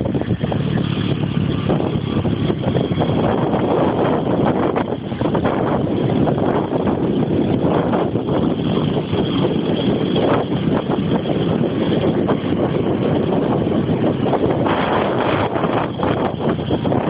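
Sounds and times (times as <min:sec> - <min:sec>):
vehicle rumble on street: 0:00.0 - 0:17.0
wind buffeting microphone: 0:00.0 - 0:17.0.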